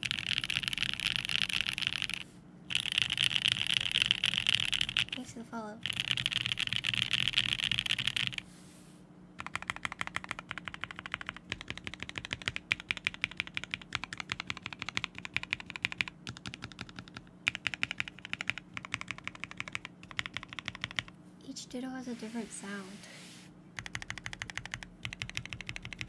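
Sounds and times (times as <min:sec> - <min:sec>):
mechanical keyboard typing: 0:00.0 - 0:08.4, 0:09.4 - 0:21.1, 0:23.8 - 0:26.0.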